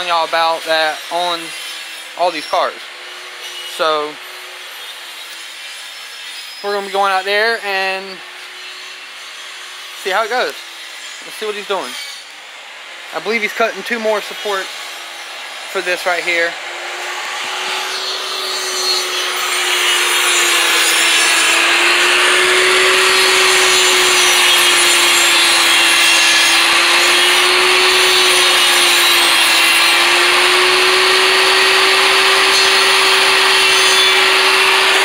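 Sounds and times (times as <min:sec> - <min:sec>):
power saw cutting wood: 0:00.0 - 0:35.0.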